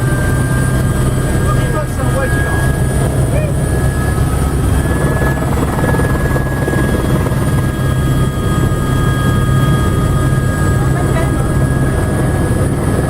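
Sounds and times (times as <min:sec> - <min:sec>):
helicopter rotor beating: 0:00.0 - 0:13.0
high-pitched turbine whine: 0:00.0 - 0:13.0.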